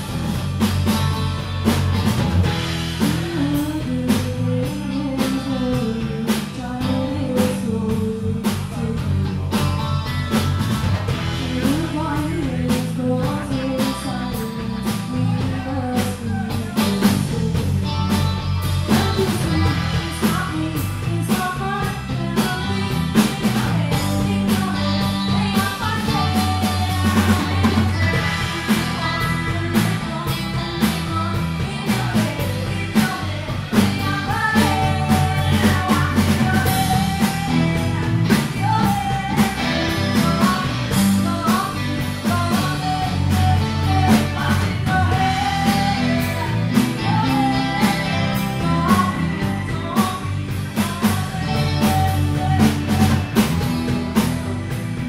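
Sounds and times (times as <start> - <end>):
drum kit steady beat: 0.0 - 55.0
electric guitar: 0.0 - 55.0
person singing: 2.9 - 9.9, 11.1 - 54.2.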